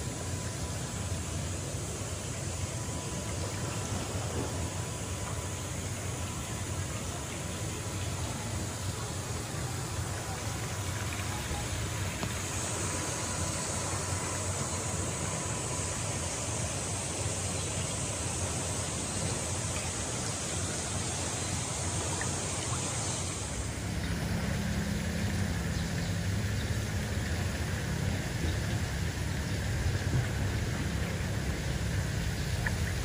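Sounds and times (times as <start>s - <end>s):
even outdoor hiss: 0.0s - 33.0s.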